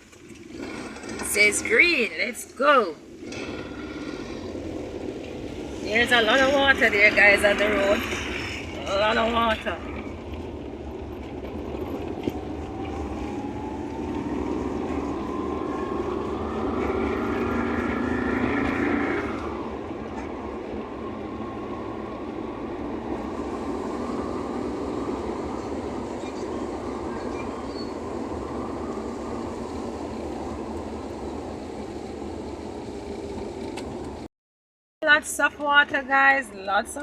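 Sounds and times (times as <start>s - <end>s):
car engine whine: 0.0s - 34.3s.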